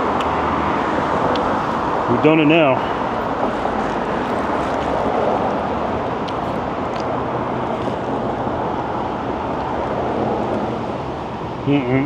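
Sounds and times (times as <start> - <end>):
road traffic roar: 0.0 - 12.0.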